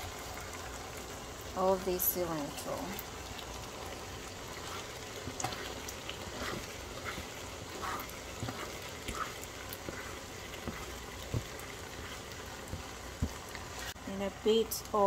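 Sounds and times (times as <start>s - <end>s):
pasta sizzling in a pan: 0.0s - 15.0s.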